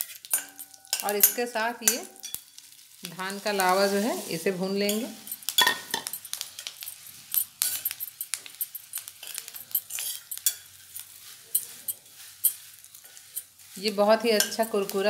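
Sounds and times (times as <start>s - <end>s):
spoon clinking and scraping pan: 0.0s - 15.0s
dry rice rustling: 2.6s - 15.0s.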